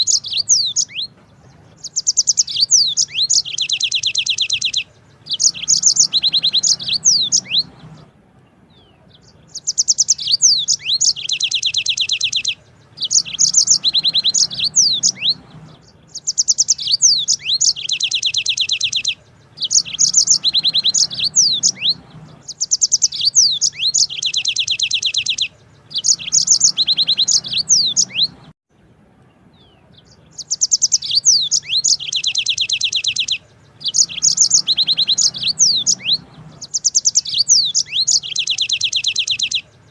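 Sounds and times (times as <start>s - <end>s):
canary singing trills: 0.0s - 28.6s, 29.2s - 39.9s.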